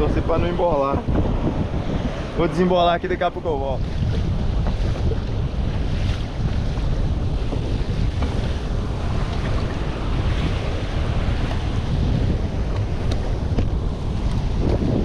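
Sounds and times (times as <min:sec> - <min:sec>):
choppy sea: 0:00.0 - 0:15.0
wind buffeting microphone: 0:00.0 - 0:15.0.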